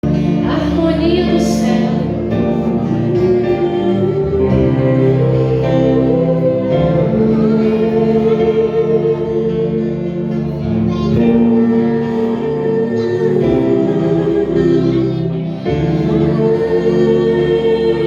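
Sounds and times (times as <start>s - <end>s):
church worship music with singing: 0.0s - 18.0s.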